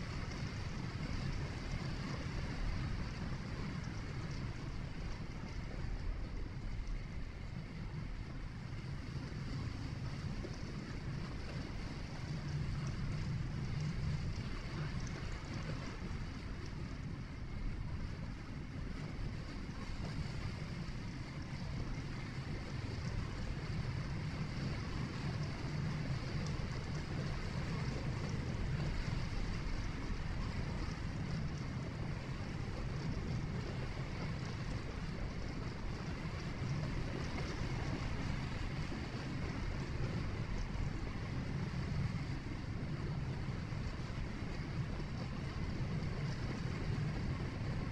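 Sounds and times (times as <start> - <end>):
road and wind hiss: 0.0 - 47.9
vehicle engine and tyre rumble: 0.0 - 47.9.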